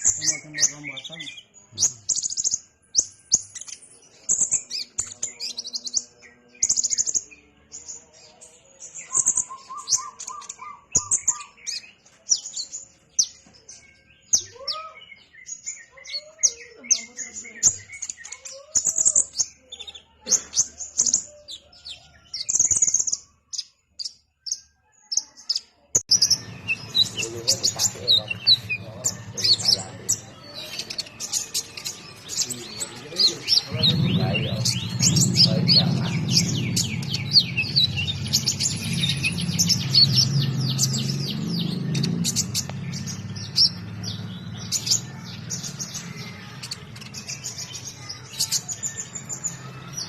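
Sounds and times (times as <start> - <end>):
sunbird high chirping song: 0.0 - 50.0.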